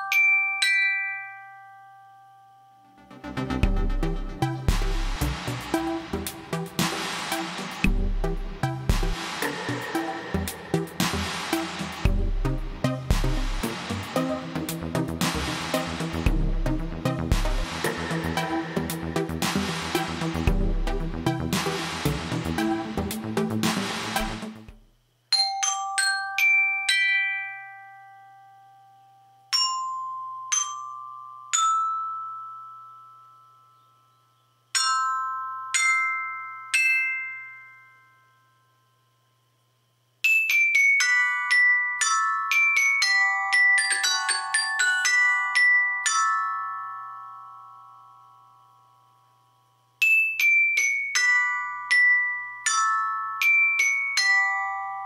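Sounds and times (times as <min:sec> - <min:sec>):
glockenspiel notes: 0:00.0 - 0:24.4, 0:25.3 - 0:39.3, 0:40.2 - 0:55.0.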